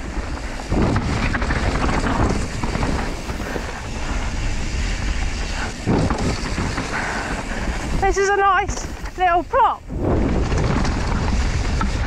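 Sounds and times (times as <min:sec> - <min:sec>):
bike knocks and rattles: 0:00.0 - 0:12.0
tyres rumbling over dirt: 0:00.0 - 0:12.0
wind buffeting microphone: 0:00.0 - 0:12.0.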